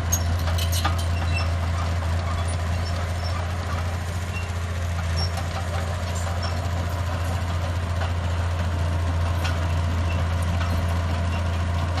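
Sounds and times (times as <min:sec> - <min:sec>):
heavy diesel engine droning: 0:00.0 - 0:12.0.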